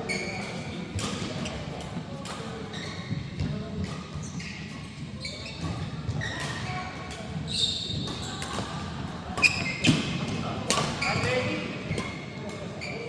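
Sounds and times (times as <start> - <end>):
sports shoes squeaking on court: 0.0 - 1.8, 2.4 - 8.7, 9.3 - 13.0
footsteps thudding in echoing hall: 1.2 - 12.4.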